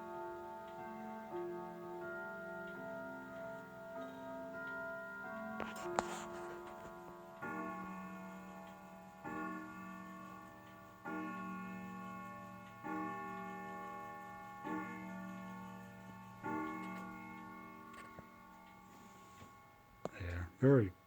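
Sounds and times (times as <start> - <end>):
wall clock chime strokes: 0.0 - 20.9.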